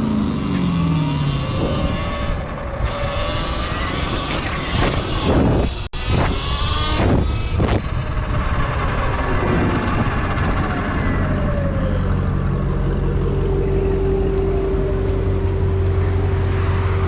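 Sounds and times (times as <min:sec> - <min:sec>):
electric motor whine: 0:00.0 - 0:17.0
wind rumble on microphone: 0:00.0 - 0:17.0.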